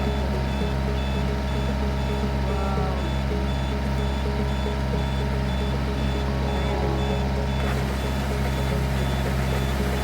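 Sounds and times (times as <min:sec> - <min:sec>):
backup warning beeps: 0:00.0 - 0:10.0.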